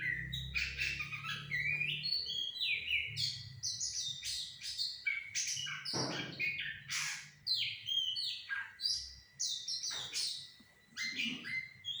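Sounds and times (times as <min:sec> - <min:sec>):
bird chirping and whistling: 0:00.0 - 0:12.0.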